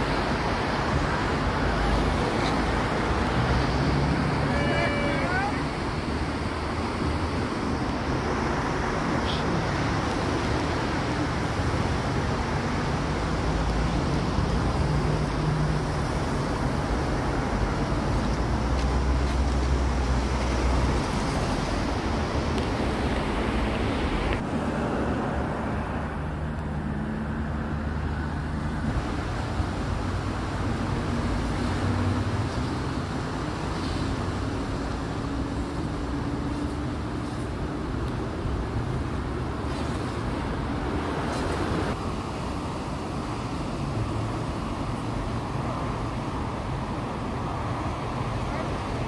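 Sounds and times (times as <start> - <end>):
highway traffic noise: 0.0 - 49.0
passing vehicle rumble: 0.0 - 49.0.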